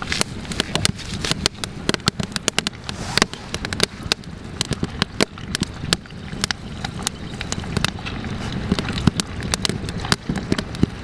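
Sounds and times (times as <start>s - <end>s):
campfire crackling: 0.0s - 11.0s
food frying in oil: 1.4s - 11.0s.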